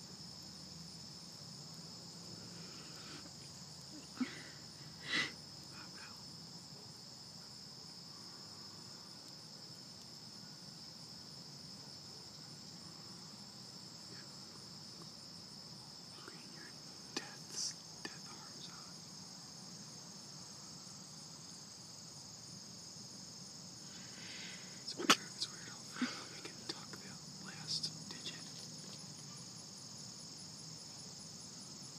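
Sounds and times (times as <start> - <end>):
crickets trilling: 0.0 - 31.9.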